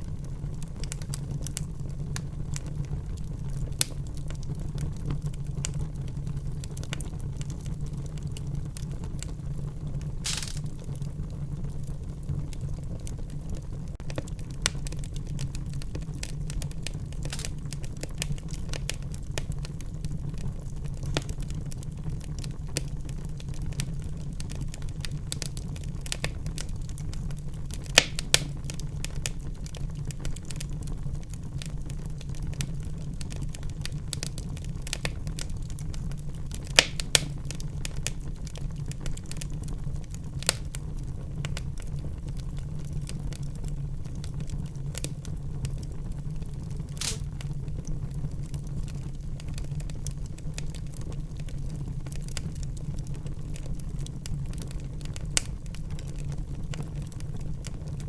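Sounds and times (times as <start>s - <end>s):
fire crackling in a fireplace: 0.0s - 58.0s.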